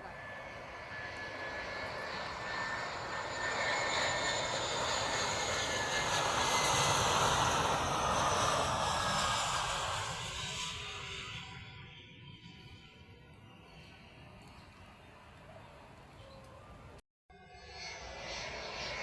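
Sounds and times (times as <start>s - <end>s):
airliner engines whining: 0.0s - 19.0s.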